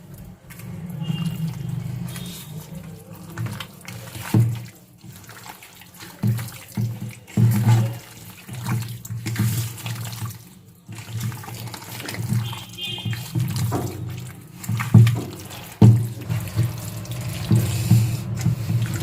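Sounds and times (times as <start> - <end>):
hands squelching wet meat: 0.0 - 19.0.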